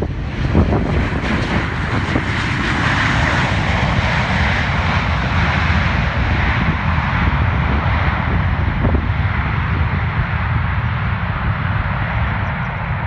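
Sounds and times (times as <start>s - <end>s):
jet engines in reverse thrust: 0.0s - 13.0s.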